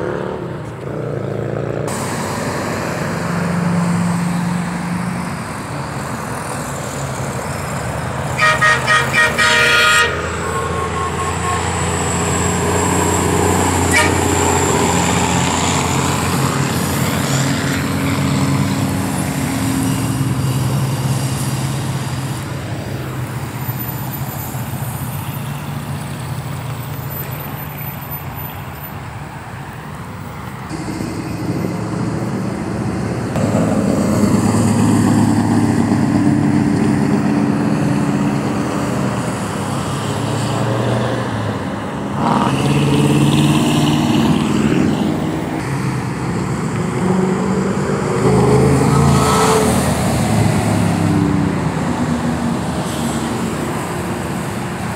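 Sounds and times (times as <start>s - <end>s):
cars and trucks driving past: 0.0s - 54.9s.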